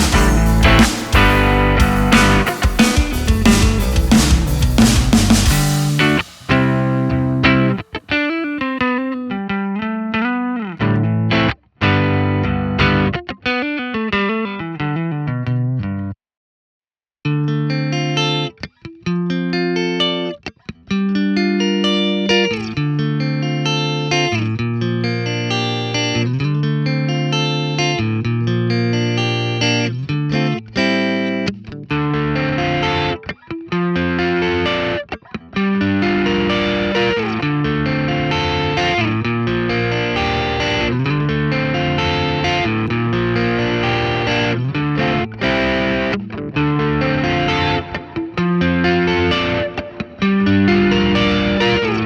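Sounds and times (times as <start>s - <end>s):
overdriven electric guitar: 0.0s - 16.1s, 17.3s - 52.0s.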